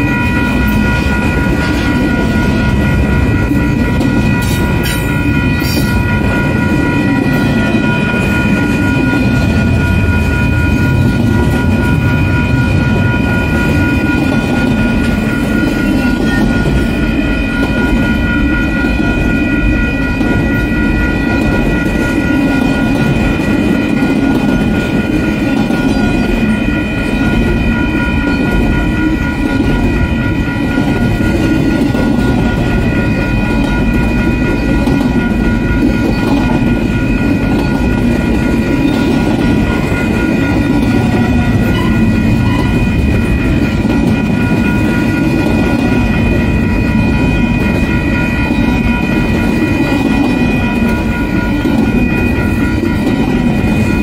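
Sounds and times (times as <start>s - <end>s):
high ringing tones: 0.0s - 54.0s
train wheels rumbling and clattering: 0.0s - 54.0s.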